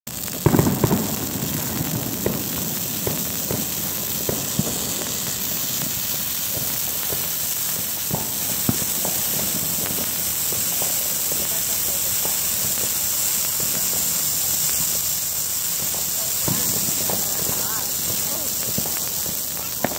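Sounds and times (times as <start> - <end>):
burning branches crackling: 0.1 - 19.9
flame rushing hiss: 0.3 - 19.9.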